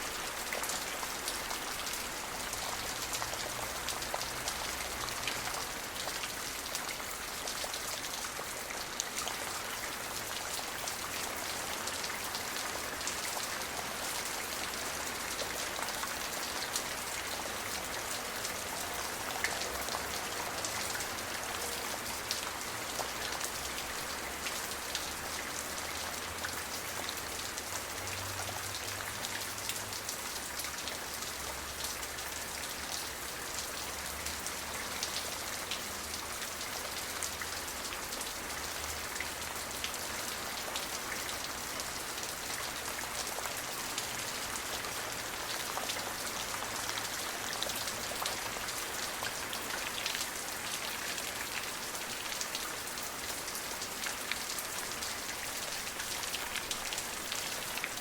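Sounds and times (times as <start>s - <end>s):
rain drops spattering: 0.0s - 58.0s.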